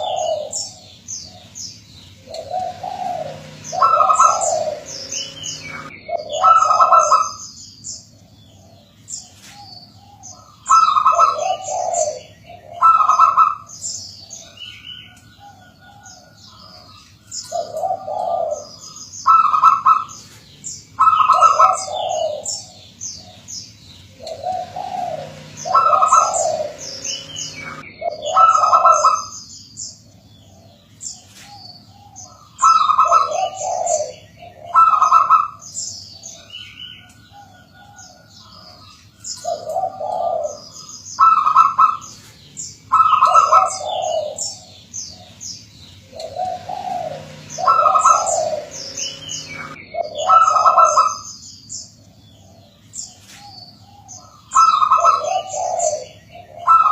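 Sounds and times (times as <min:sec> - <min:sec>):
doves cooing: 0:00.0 - 0:56.9
small birds chirping: 0:00.0 - 0:56.9.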